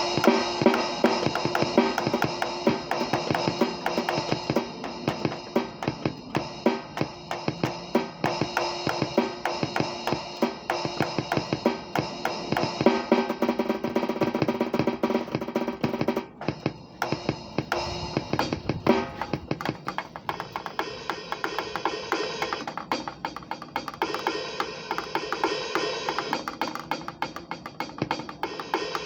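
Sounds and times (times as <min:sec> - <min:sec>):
drum kit playing: 0:00.0 - 0:29.0.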